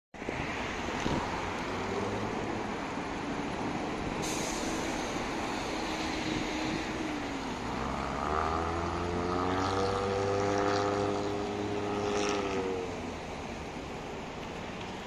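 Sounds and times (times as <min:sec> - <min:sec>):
cars driving past: 0:00.2 - 0:15.0.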